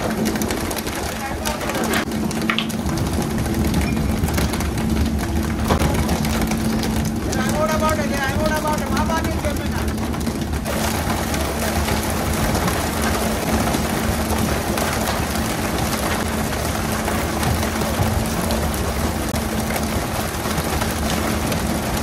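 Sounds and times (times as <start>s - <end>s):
boat engine hum: 0.0s - 22.0s
water spray spattering on sea: 0.0s - 22.0s.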